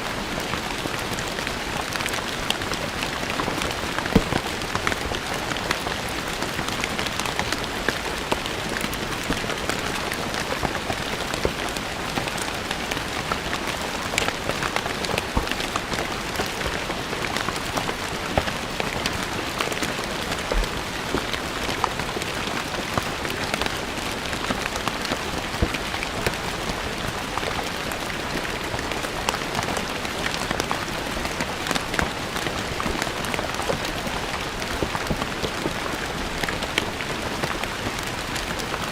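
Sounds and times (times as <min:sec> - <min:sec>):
rain on stone paving: 0:00.0 - 0:38.9.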